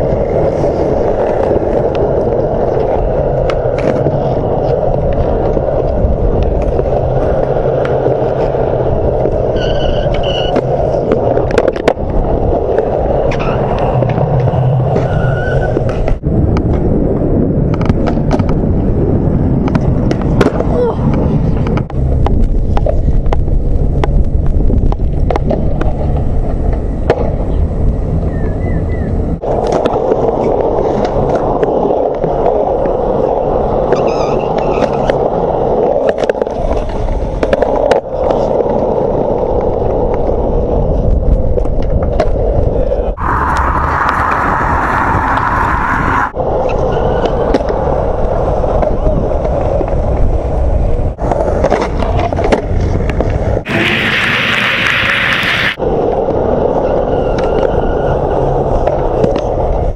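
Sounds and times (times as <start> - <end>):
skateboard clacks: 0.0 - 27.7, 29.4 - 56.5
skateboard wheels rolling on concrete: 0.0 - 59.9.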